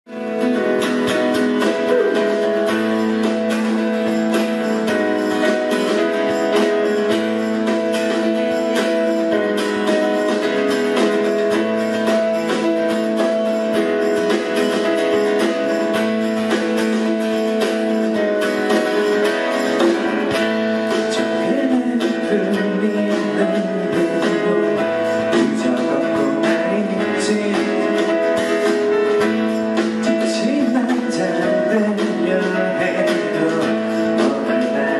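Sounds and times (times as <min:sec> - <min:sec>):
acoustic guitar strummed: 0:00.1 - 0:34.9.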